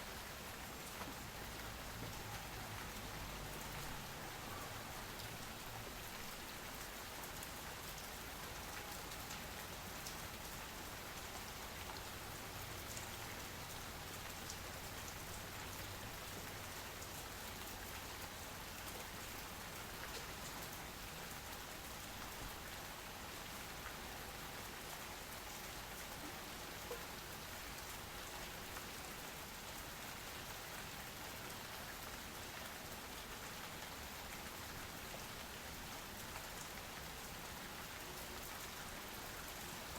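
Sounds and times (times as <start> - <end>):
soft rain hissing: 0.0 - 39.9.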